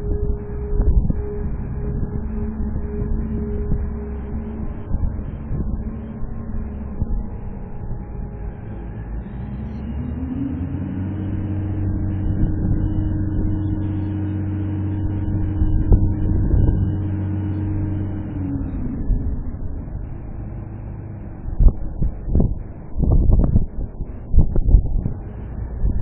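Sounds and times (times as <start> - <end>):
forklift engine revving: 0.0 - 21.6.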